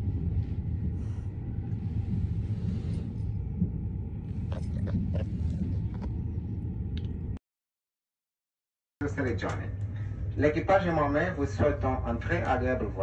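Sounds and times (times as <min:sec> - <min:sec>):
train carriage rumble: 0:00.0 - 0:07.4, 0:09.0 - 0:13.0.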